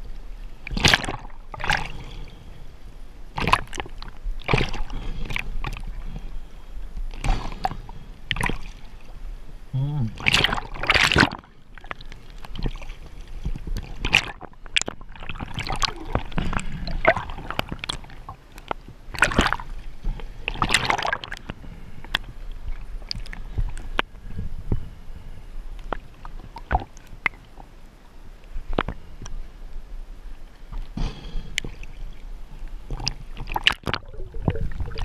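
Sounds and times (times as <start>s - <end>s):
water sloshing underwater: 0.0s - 35.0s
water swishes: 0.0s - 35.0s.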